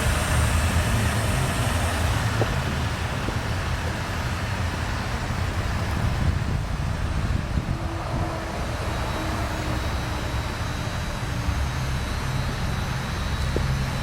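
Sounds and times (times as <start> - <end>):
road traffic: 0.0 - 14.0
wind: 0.0 - 14.0.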